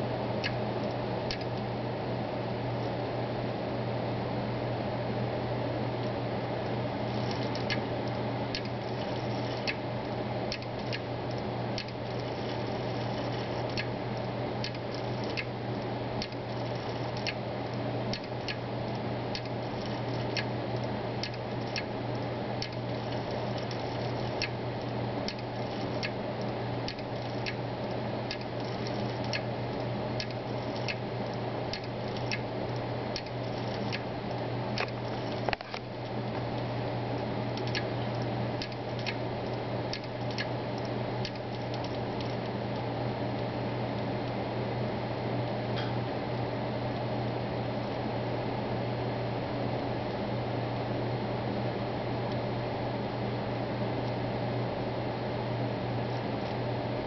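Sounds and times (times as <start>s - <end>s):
hard drive spinning hum: 0.0s - 57.0s.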